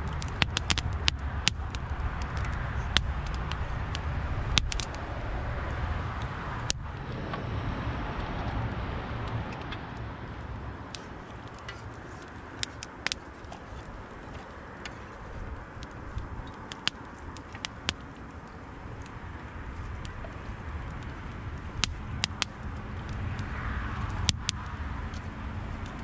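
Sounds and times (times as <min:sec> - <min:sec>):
bonfire crackling: 0:00.0 - 0:26.0
burning wood popping: 0:00.0 - 0:26.0
low fire rumble: 0:00.0 - 0:26.0.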